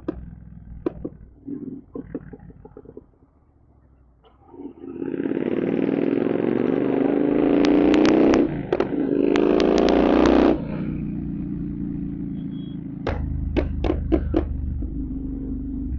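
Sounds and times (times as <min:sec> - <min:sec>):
exhaust pops: 0:00.0 - 0:06.0, 0:07.4 - 0:11.3, 0:13.0 - 0:15.9
motorcycle engine revving: 0:00.0 - 0:15.9.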